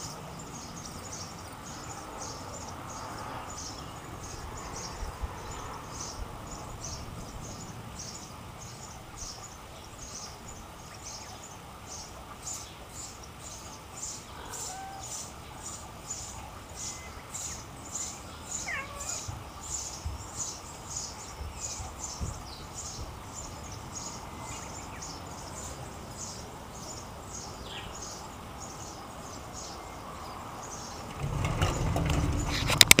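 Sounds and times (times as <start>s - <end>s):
low wind rumble: 0.0s - 11.8s, 14.3s - 33.0s
bird chirps: 0.0s - 32.9s.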